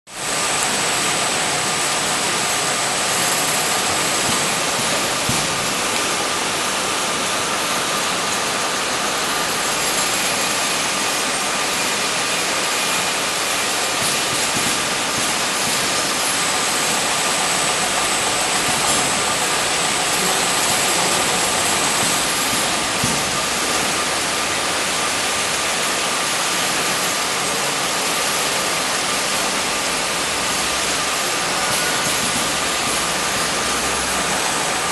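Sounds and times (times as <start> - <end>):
machine whirring: 0.1 - 34.9.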